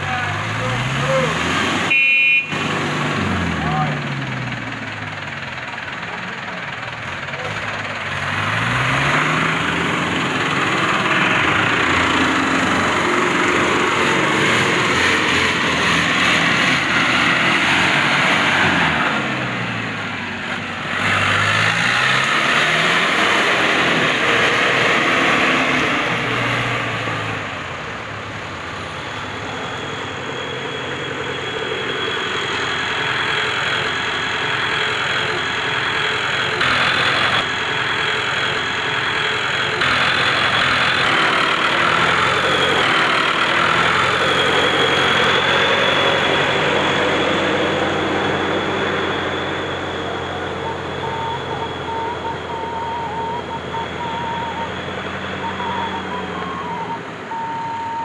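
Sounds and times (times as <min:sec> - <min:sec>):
diesel engines revving: 0:00.0 - 0:58.0.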